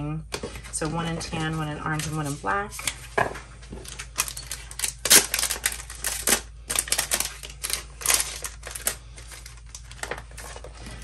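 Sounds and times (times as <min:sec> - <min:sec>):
plastic sleeve crinkling: 0:00.8 - 0:11.0.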